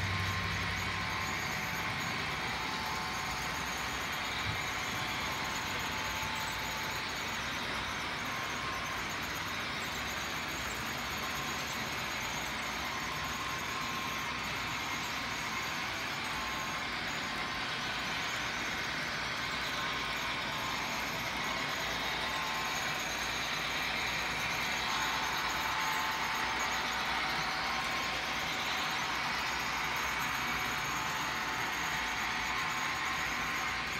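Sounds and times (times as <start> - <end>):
faint whine: 0.0 - 33.9
model train motors whirring: 0.0 - 33.9.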